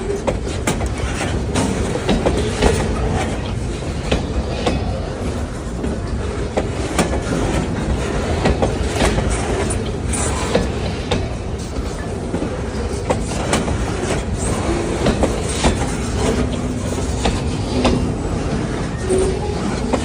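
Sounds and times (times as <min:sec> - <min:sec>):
freight train rumble: 0:00.0 - 0:20.0
wheels clicking over rail joints: 0:00.0 - 0:20.0.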